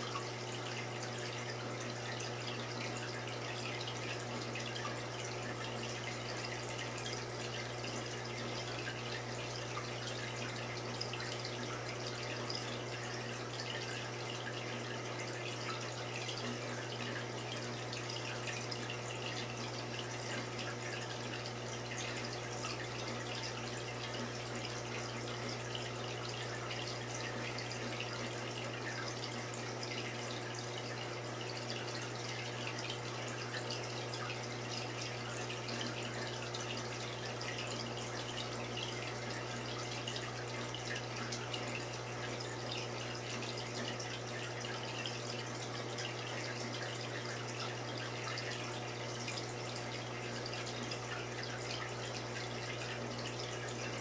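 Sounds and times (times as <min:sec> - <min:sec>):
low constant hum: 0:00.0 - 0:54.0
water trickling and dripping: 0:00.0 - 0:54.0.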